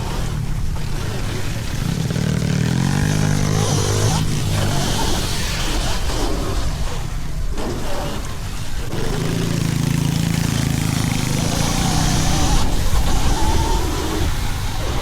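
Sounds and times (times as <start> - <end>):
small motorbike engine running: 0.0 - 15.0
wind on microphone: 0.0 - 15.0.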